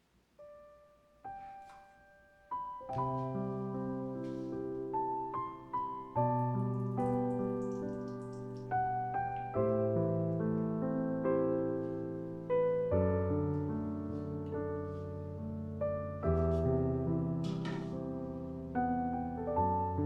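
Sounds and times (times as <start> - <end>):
slow solo piano music: 0.4 - 20.0.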